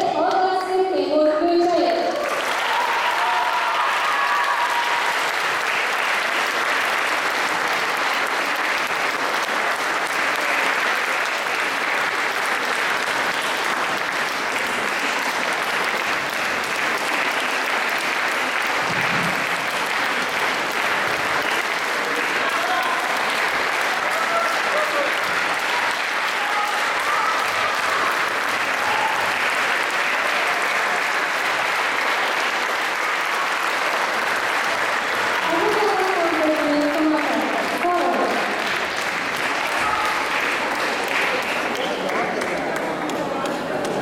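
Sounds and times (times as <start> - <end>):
audience applauding: 2.1 - 44.0.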